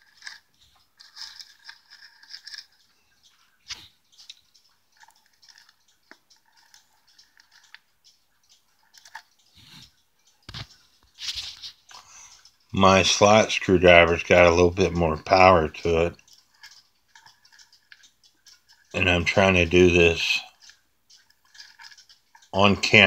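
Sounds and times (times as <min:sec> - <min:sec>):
sharp ticks: 0:00.0 - 0:23.0.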